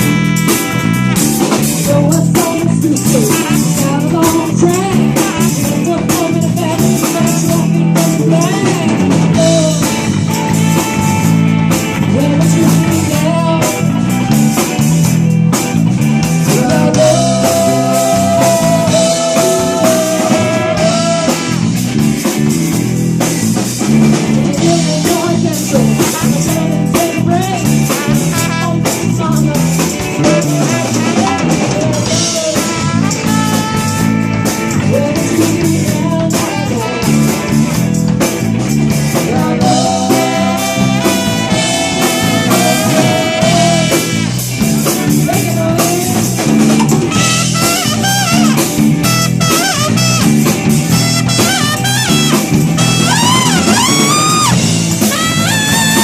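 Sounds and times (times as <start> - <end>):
blues band playing: 0.0 - 56.0
drum kit beat: 0.0 - 56.0.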